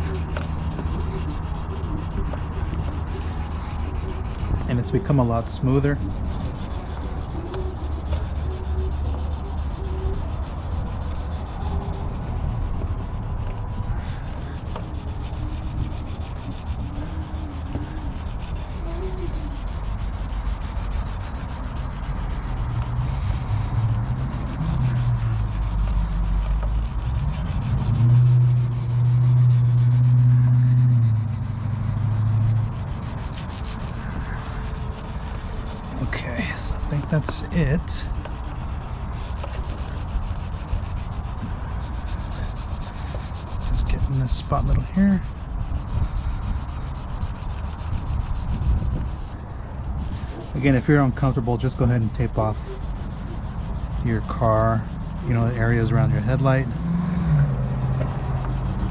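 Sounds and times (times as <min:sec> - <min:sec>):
low hum: 0:00.0 - 0:44.3, 0:52.5 - 0:58.9
sandpaper rubbing back and forth: 0:00.0 - 0:58.9.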